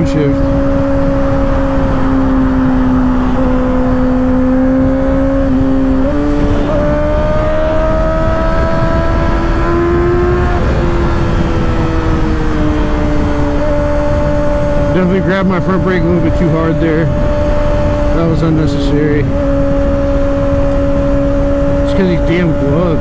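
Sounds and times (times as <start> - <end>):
motorbike engine at high revs: 0.0 - 23.0.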